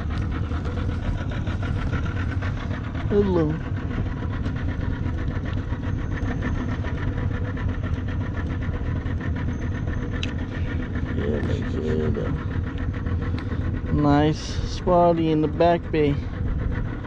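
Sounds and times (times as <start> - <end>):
engine running with deep hum: 0.0 - 17.0.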